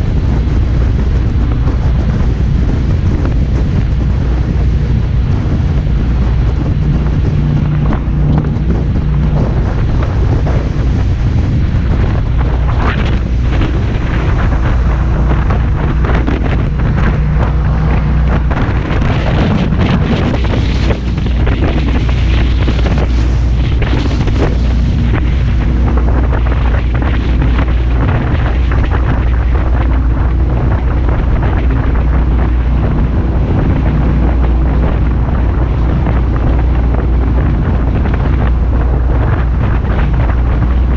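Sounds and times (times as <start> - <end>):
boat engine humming: 0.0 - 40.9
wind buffeting microphone: 0.0 - 40.9.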